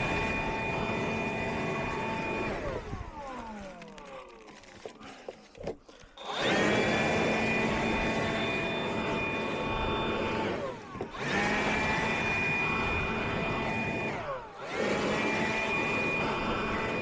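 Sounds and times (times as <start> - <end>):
electric blower motor whine: 0.0 - 17.0.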